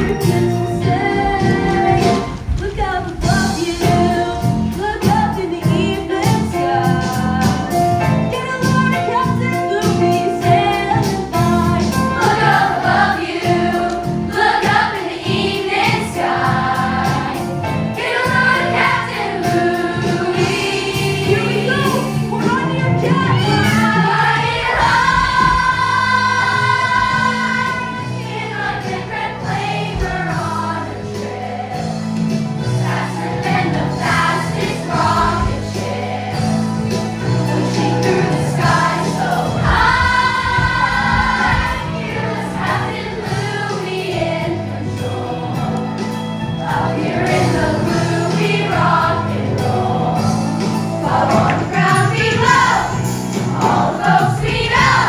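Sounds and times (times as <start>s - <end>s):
young chorus singing: 0.0s - 7.8s, 10.3s - 22.1s, 23.6s - 55.0s
musical accompaniment with beat: 0.0s - 55.0s.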